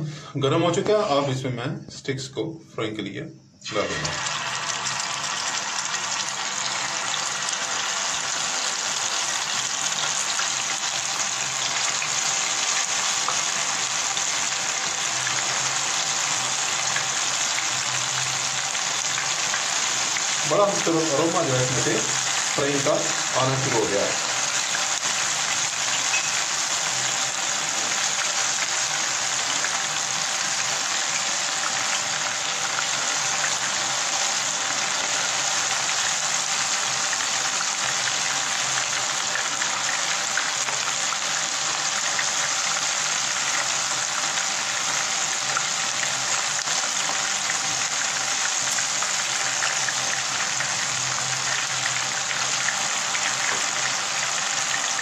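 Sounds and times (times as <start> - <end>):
food sizzling in hot oil: 3.6 - 55.0.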